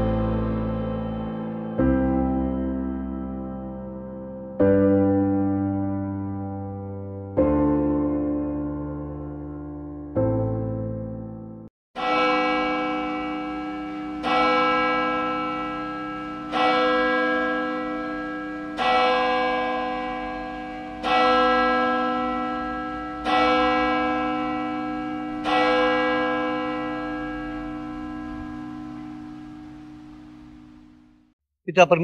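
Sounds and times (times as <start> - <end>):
church bell tolling: 0.0 - 11.3, 12.0 - 31.3.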